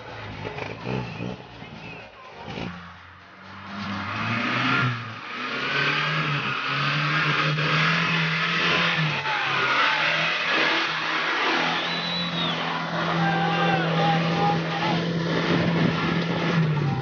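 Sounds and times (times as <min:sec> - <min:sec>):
off-road vehicle engine revving hard: 0:00.0 - 0:17.0.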